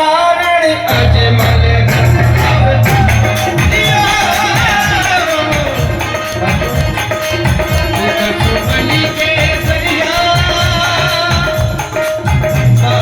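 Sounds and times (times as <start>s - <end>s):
fast hand percussion beat: 0.3s - 13.0s
sustained melody line: 0.9s - 13.0s.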